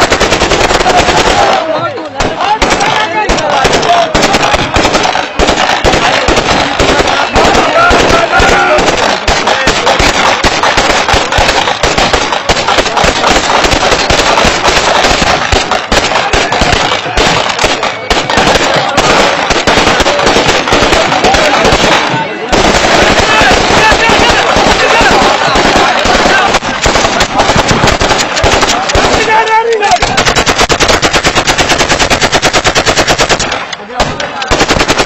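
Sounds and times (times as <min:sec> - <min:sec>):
volley of rifle fire: 0:00.0 - 0:35.0
men's voices: 0:00.3 - 0:32.1, 0:33.4 - 0:34.7.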